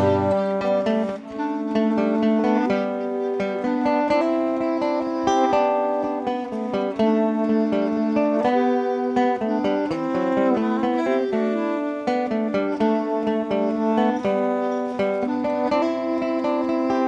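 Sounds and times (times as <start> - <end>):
acoustic guitar strumming: 0.0 - 17.0
clarinet melody: 0.0 - 17.0
fiddle melody: 0.0 - 17.0.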